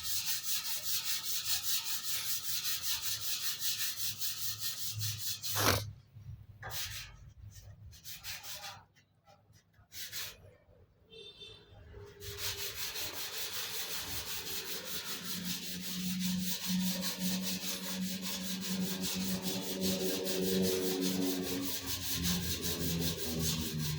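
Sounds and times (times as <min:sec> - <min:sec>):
hand sanding strokes: 0:00.0 - 0:05.9, 0:06.6 - 0:10.5, 0:12.1 - 0:23.9.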